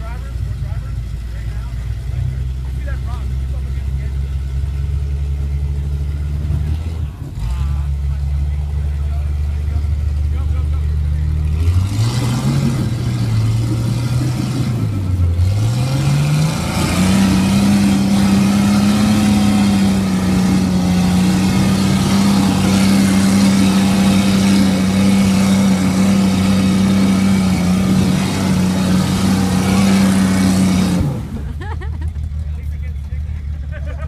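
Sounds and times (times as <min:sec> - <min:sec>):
engine revving high: 0:00.8 - 0:31.8.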